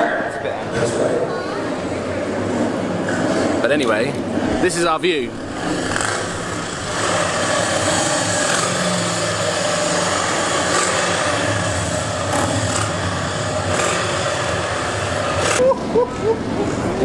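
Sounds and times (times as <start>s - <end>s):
distant high-pitched race car engine: 0.0s - 17.0s
motorcycle engines idling: 1.4s - 17.0s.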